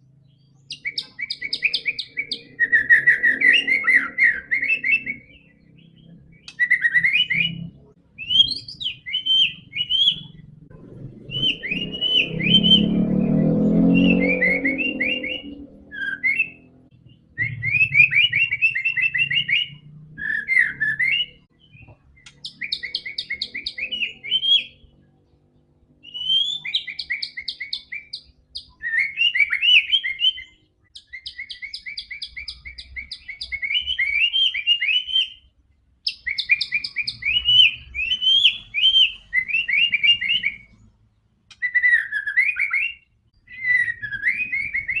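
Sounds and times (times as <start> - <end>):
songbird trilling and whistling: 0.2 - 10.6, 11.2 - 25.0, 26.0 - 40.9, 41.5 - 45.0.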